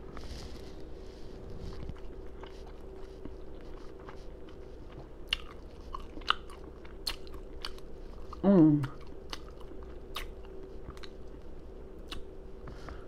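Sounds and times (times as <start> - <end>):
chewing fried food: 0.1 - 12.9.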